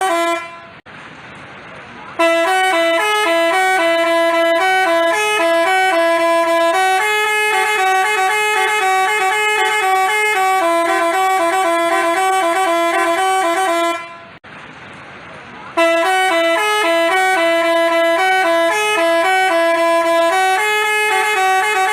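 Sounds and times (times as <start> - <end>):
multi-tone bus horn tune: 0.0 - 0.8, 2.1 - 14.4, 15.7 - 21.9.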